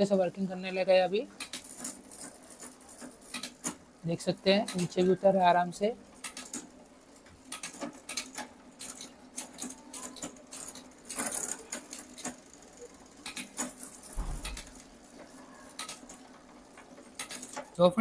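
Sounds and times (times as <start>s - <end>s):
bicycle chain clicking: 0.0s - 17.8s.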